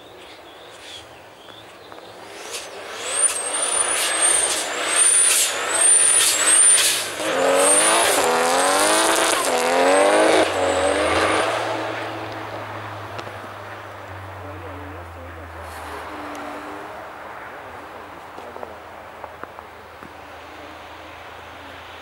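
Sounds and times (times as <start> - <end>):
race car engine revving: 2.0 - 22.0.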